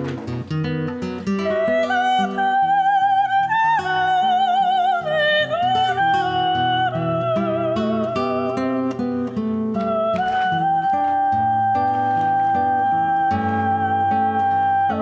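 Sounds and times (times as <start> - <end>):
flamenco guitar: 0.0 - 15.0
woman singing ornamented notes: 1.4 - 15.0.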